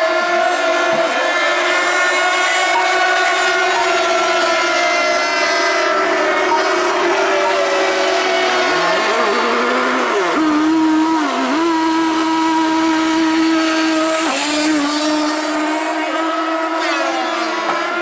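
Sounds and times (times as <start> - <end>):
small two-stroke engines whining: 0.0 - 18.0.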